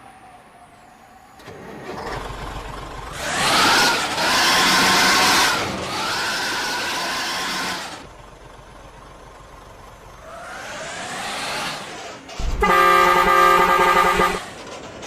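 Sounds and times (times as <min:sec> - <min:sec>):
bus engine revving: 0:01.4 - 0:15.0.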